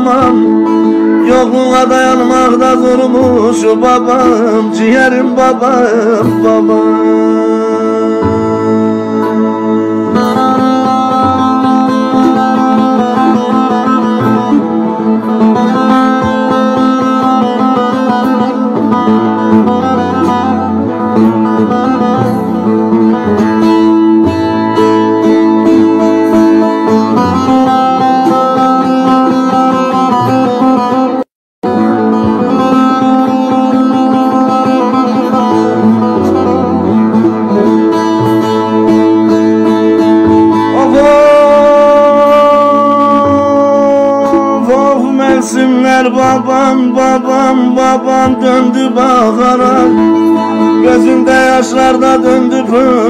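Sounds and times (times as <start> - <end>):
plucked lute melody with drone: 0.0 - 53.0.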